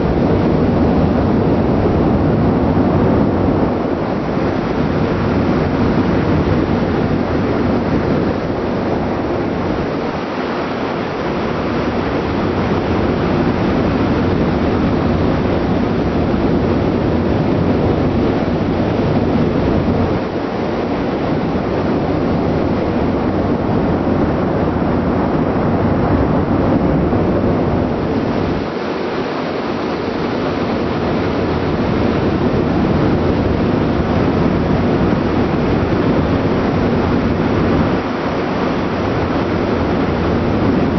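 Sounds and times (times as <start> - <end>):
rushing sea water: 0.0 - 40.9
ship engine rumble: 0.0 - 40.9
wind buffeting microphone: 0.0 - 40.9.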